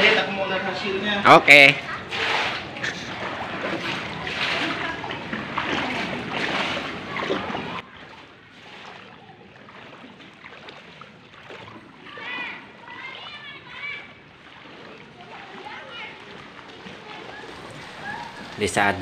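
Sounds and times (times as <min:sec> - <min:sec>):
faint watery background: 0:00.0 - 0:19.0
water sloshing while wading: 0:00.0 - 0:19.0.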